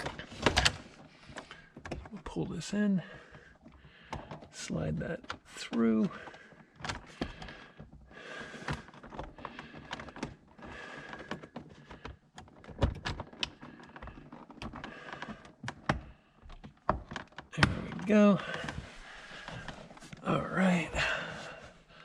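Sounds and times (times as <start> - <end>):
rustling of cable: 0.0 - 22.0.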